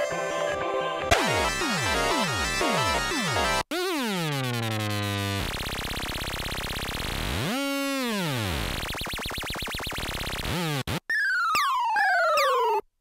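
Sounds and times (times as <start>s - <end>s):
synthesizer tones: 1.1s - 12.8s.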